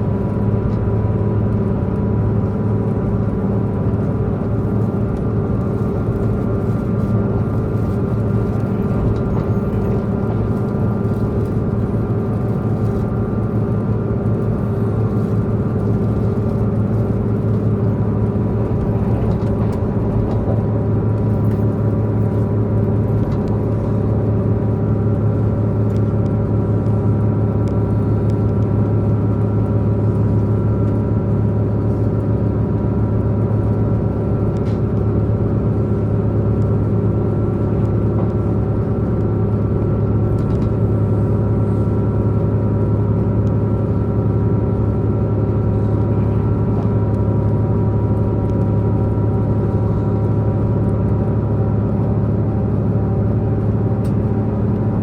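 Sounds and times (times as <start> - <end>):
train diesel engine droning: 0.0 - 55.0
train running noise: 0.0 - 55.0.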